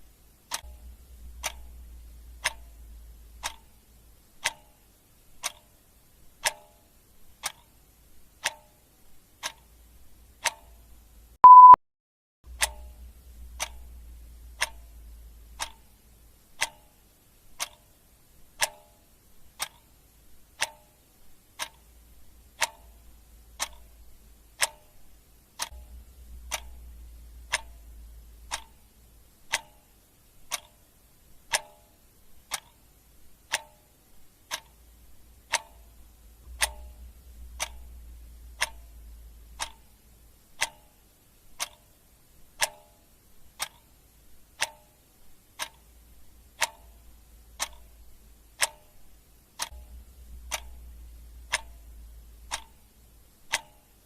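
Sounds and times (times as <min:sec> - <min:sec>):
faint low rumble: 0:00.0 - 0:08.4, 0:12.5 - 0:42.7, 0:43.4 - 0:54.0
clock ticking: 0:00.0 - 0:11.8, 0:12.5 - 0:54.0.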